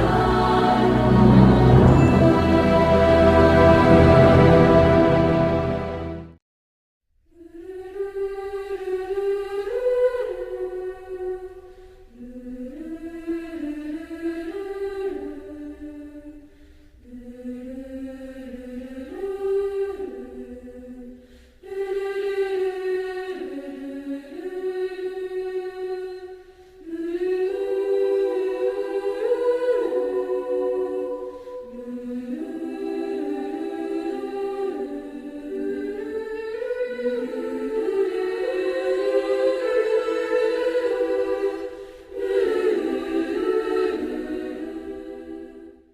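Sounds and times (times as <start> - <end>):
choir singing slow chords: 0.0 - 6.4, 7.4 - 45.9.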